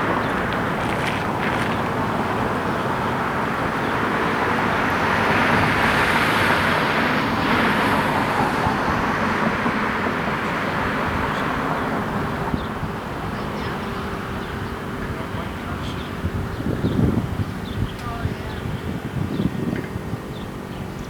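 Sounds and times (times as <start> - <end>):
car passing by: 0.0 - 17.0.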